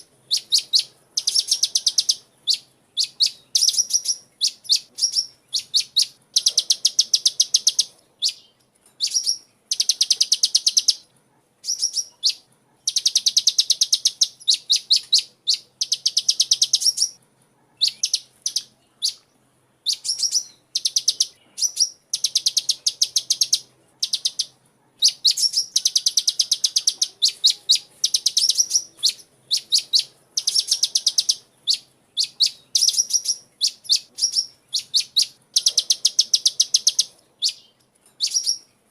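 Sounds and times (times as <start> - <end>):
bird singing rapid trills: 0.0 - 11.0, 11.6 - 17.2, 17.8 - 19.2, 19.8 - 38.9.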